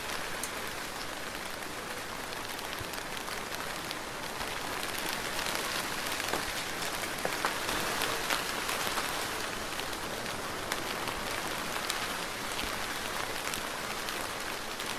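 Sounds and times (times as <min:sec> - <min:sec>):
raindrops ticking on a surface: 0:00.0 - 0:14.9
soft rain hissing: 0:00.0 - 0:14.9.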